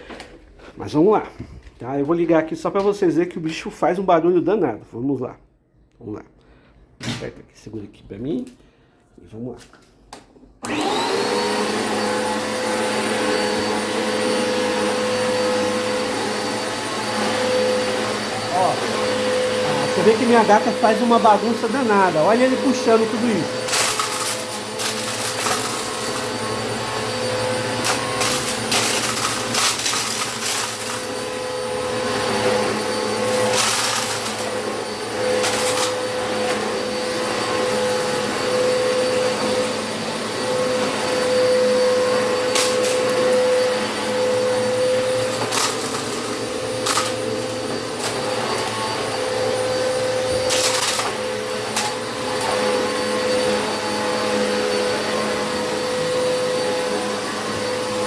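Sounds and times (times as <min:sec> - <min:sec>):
vacuum cleaner running: 0:10.6 - 0:58.0.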